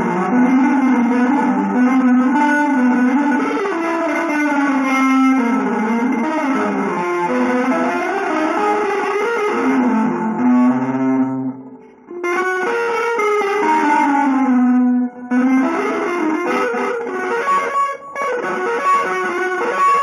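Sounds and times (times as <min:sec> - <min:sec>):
electric guitar melody: 0:00.0 - 0:20.0.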